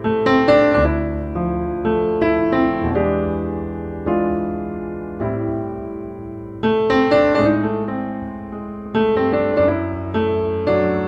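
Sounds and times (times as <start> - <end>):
piano notes ringing: 0.0 - 11.0.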